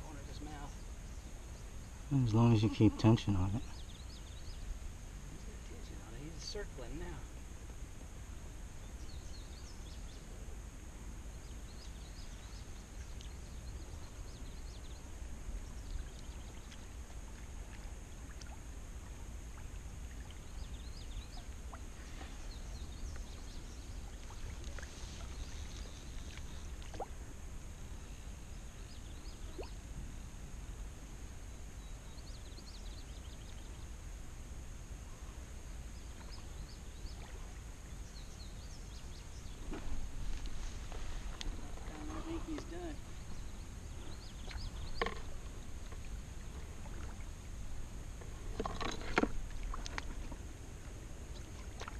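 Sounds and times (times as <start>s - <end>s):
faint chirps and ticks: 0.0s - 51.9s.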